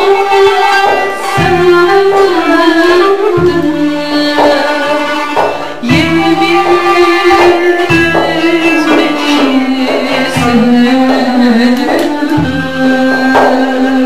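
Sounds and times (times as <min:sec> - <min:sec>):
held melody line: 0:00.0 - 0:14.0.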